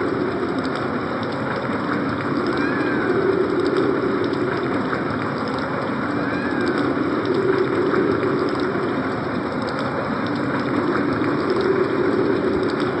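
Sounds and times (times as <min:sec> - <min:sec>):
faint ticks: 0:00.0 - 0:13.0
low howling: 0:00.0 - 0:13.0
synthesized wind hiss: 0:00.0 - 0:13.0.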